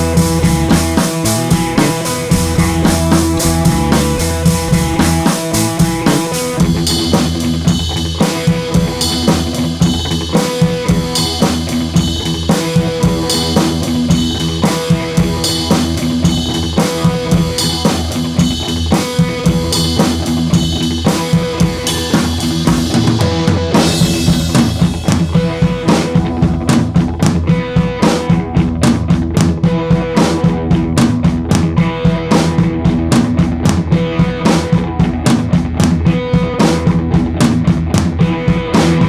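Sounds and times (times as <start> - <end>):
instrumental music with drum beat: 0.0 - 39.0.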